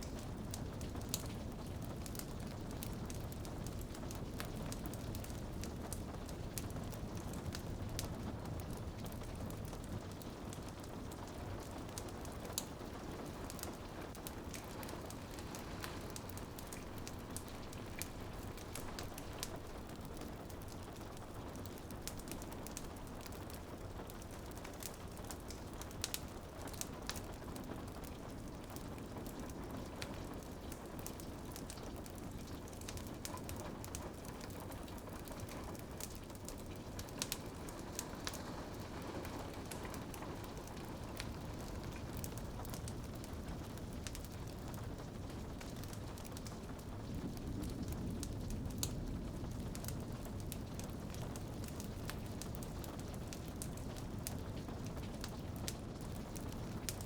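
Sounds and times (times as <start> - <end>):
fireplace fire crackling: 0.0 - 57.0
rain pattering on a window: 0.0 - 57.0.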